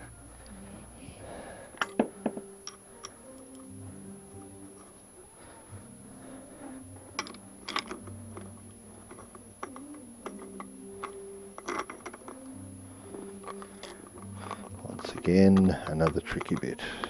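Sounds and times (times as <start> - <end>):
faint steady hum: 0.0 - 17.0
metal parts clicking and tapping: 1.7 - 5.1, 6.6 - 17.0.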